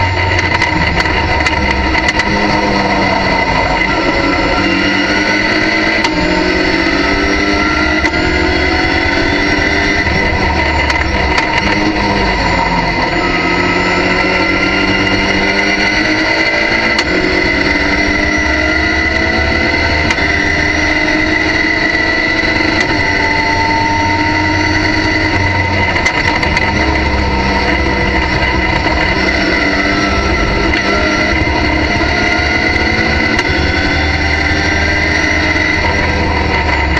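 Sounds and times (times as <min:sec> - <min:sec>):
race car engine at full throttle: 0:00.0 - 0:36.9
steady high whine: 0:00.0 - 0:36.9.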